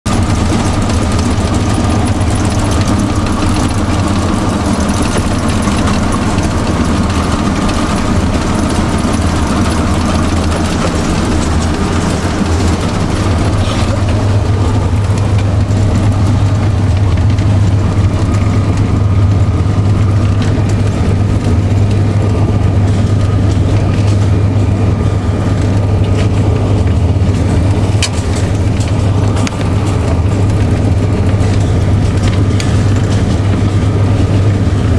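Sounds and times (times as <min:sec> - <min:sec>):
diesel locomotive engine drone: 0:00.0 - 0:34.9.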